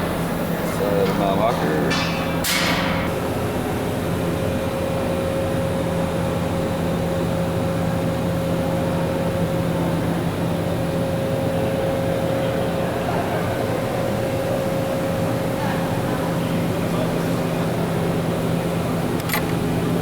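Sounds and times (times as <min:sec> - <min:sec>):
factory machinery hum: 0:00.0 - 0:20.0.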